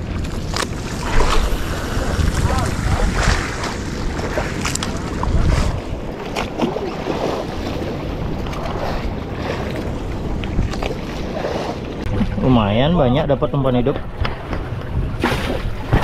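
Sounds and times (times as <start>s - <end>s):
water splashing against hull: 0.0s - 16.0s
wind buffeting microphone: 0.0s - 16.0s.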